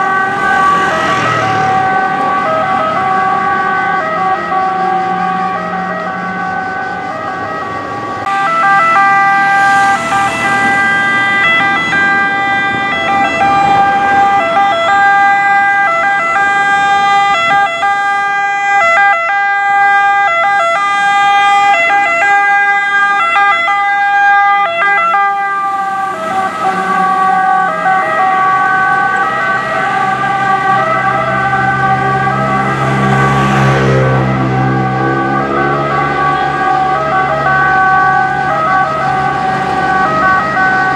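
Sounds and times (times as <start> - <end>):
road traffic: 0.0 - 40.9
two-tone fire truck siren: 0.0 - 40.9.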